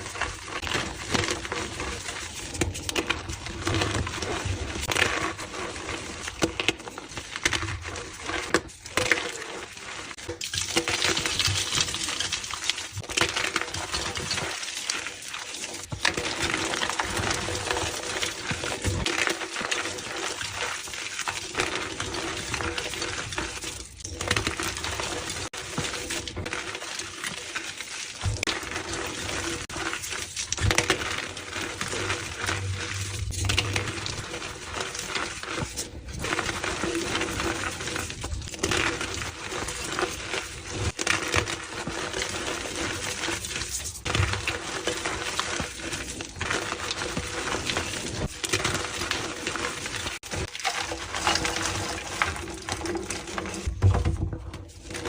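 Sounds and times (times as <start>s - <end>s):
chalk crunching and crackling: 0.0s - 53.7s.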